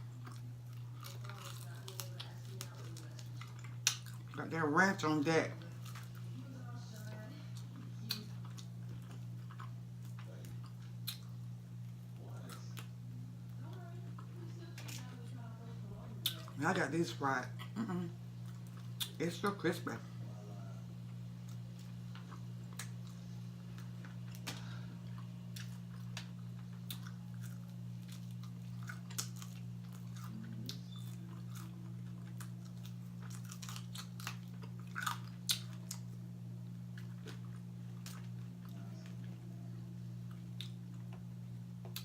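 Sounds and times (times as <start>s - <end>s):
crunchy food chewing: 0.0s - 15.5s, 16.1s - 16.6s, 17.6s - 19.2s, 20.8s - 42.0s
steady low hum: 0.0s - 42.0s.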